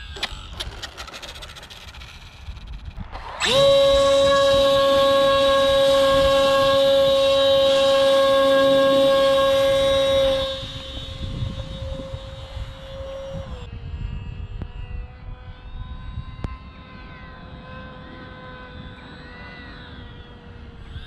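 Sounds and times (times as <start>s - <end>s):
model airplane motor whine: 0.0s - 21.0s
wind rumble on microphone: 0.0s - 21.0s.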